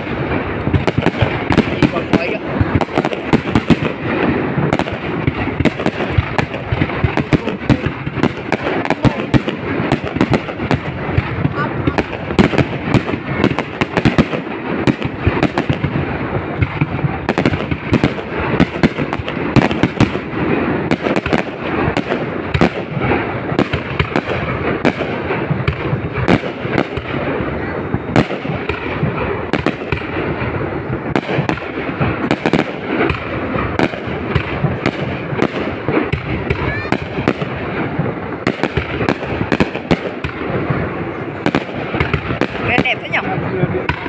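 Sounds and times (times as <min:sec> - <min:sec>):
fireworks bangs: 0:00.0 - 0:44.0
fireworks crackling rumble: 0:00.0 - 0:44.0.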